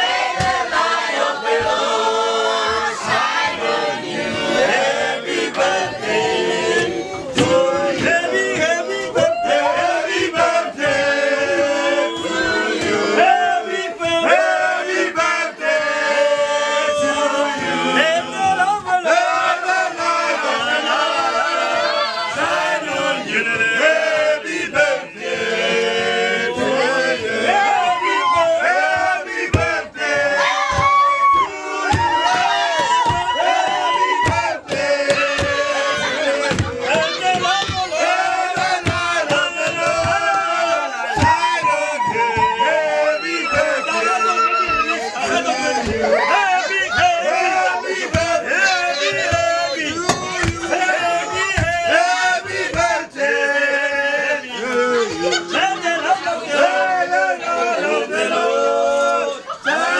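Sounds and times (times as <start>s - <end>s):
group of voices singing: 0.0s - 59.9s.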